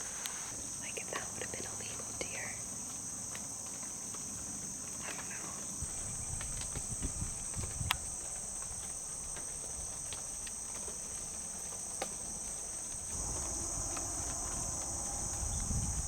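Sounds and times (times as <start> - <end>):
insects chirping in chorus: 0.0 - 16.0.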